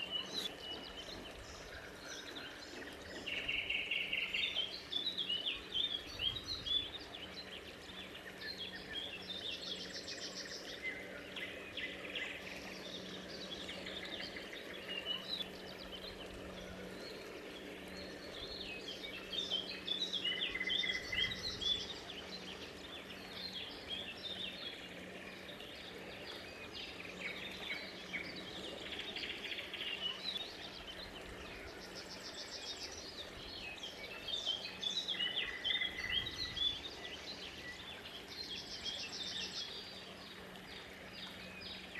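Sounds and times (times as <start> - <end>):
small birds chirping: 0.0 - 41.9
steady low hum: 0.0 - 41.9.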